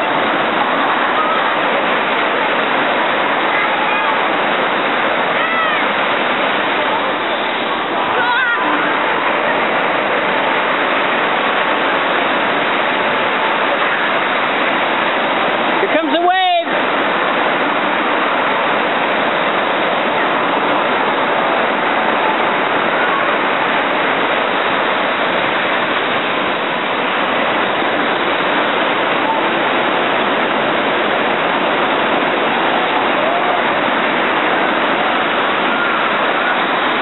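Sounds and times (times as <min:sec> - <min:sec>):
ocean surf breaking: 0:00.0 - 0:37.0.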